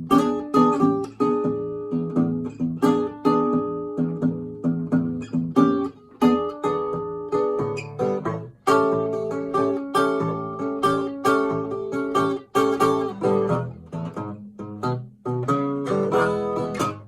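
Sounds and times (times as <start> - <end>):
fingerstyle blues acoustic guitar: 0.0 - 17.0.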